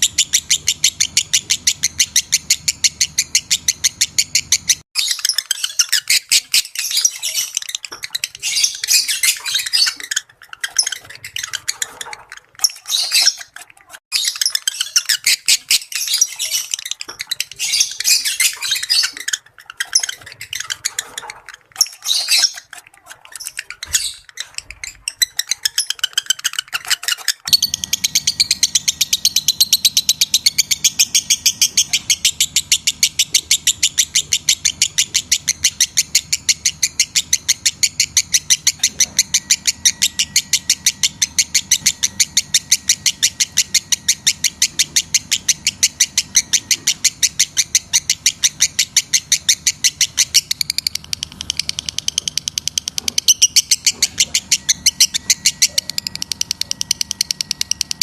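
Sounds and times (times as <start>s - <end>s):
lovebirds chattering: 0.0s - 58.0s.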